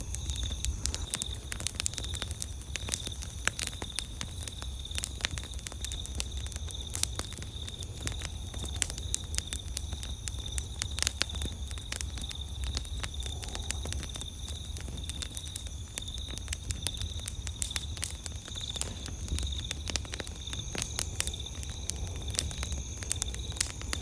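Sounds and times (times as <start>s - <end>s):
campfire crackling: 0.0s - 24.0s
night insects trilling: 0.0s - 24.0s.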